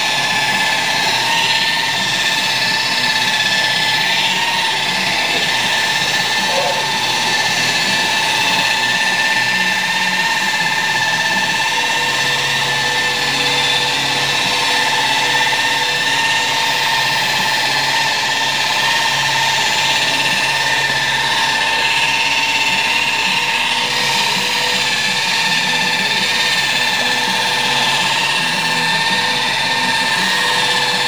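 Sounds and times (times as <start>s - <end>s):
electric polisher motor whine: 0.0s - 31.0s.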